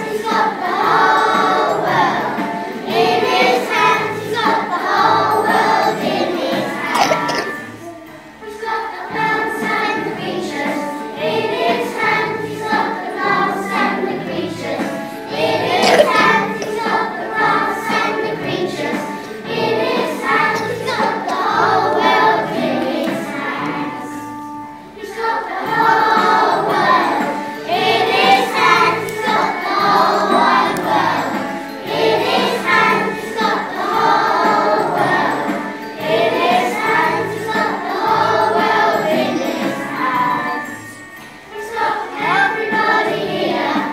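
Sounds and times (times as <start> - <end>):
instrumental accompaniment: 0.0 - 8.5, 11.3 - 43.9
children singing: 0.0 - 24.4, 25.0 - 43.9.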